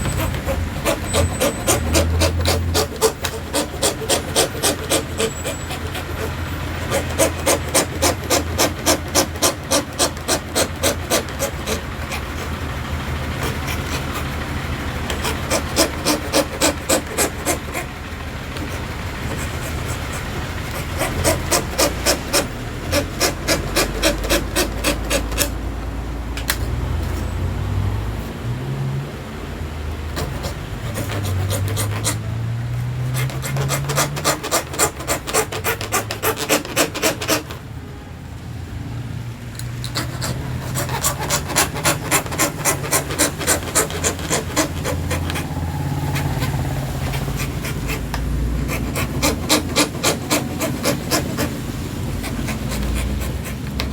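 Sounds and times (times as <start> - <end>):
hand saw rasping through plastic: 0.0 - 25.6, 30.0 - 37.6, 39.8 - 53.9.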